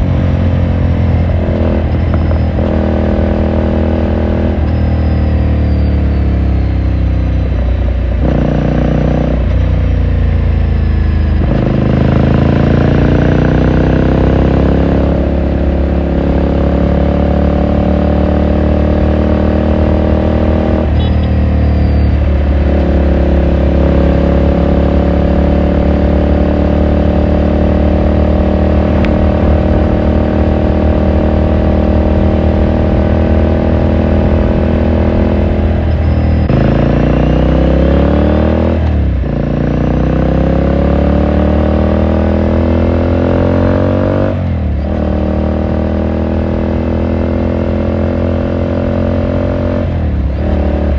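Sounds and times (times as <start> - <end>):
motorcycle engine while riding: 0.0 - 50.9.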